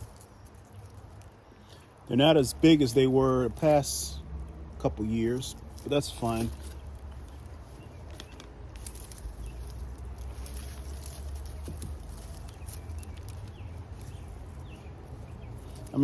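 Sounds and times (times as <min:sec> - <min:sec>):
dry stalks crackling and rustling: 0:00.0 - 0:16.0.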